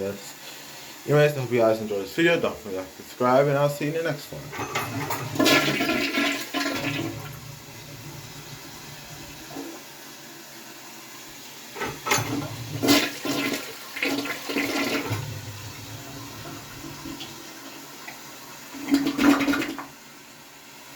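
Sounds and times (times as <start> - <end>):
toilet flushing: 0.0 - 20.9
water gurgling: 1.2 - 10.2, 11.6 - 20.1.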